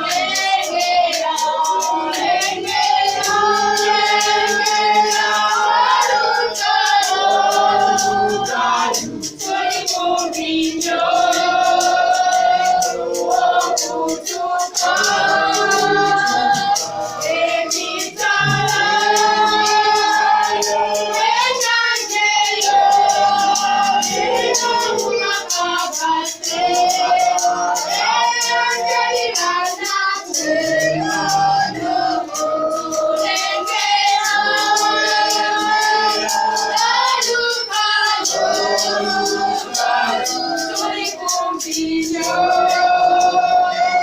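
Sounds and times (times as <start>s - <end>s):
choir singing: 0.0s - 44.0s
music with percussion beat: 0.0s - 44.0s.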